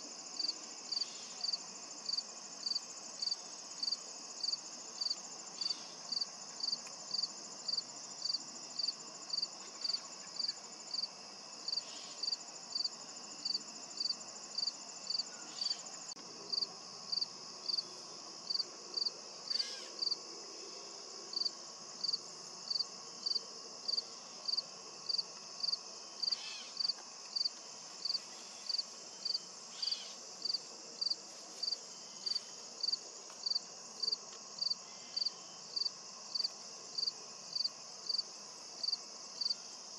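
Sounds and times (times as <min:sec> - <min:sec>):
crickets chirping: 0:00.0 - 0:39.9
high insect trill: 0:00.1 - 0:39.9.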